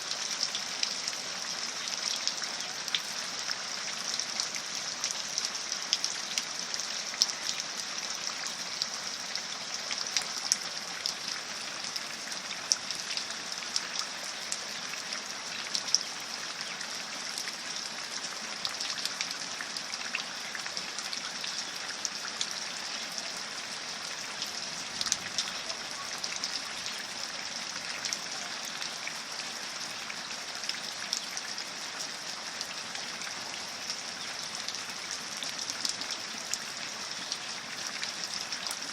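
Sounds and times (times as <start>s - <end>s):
steady rain with ticking drops: 0.0s - 38.9s.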